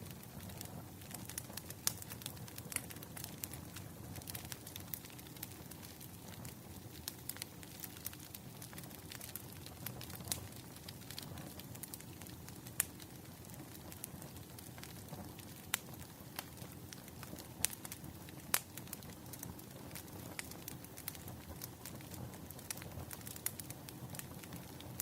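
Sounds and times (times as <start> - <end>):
firewood crackling and popping: 0.0 - 25.0
low rumble of fire: 0.0 - 25.0.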